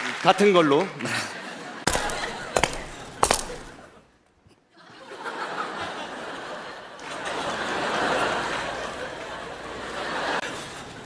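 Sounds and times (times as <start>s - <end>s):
audience laughter: 1.0s - 4.1s, 4.7s - 11.0s.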